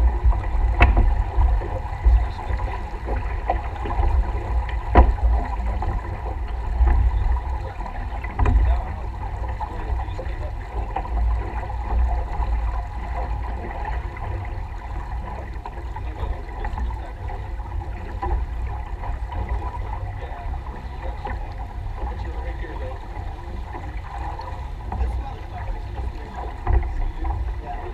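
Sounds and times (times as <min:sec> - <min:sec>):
water rushing along a hull: 0:00.0 - 0:27.9
wind buffeting microphone: 0:00.0 - 0:27.9.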